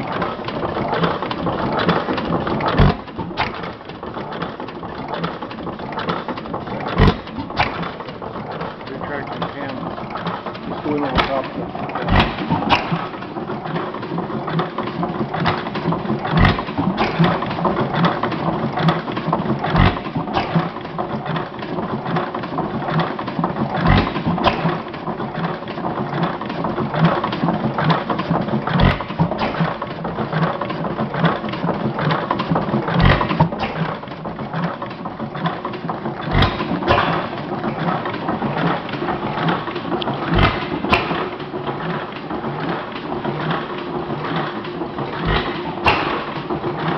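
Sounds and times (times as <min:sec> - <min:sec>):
valve gear clattering: 0:00.0 - 0:25.8, 0:26.4 - 0:46.9
gas engine firing with heavy thumps: 0:00.0 - 0:46.9.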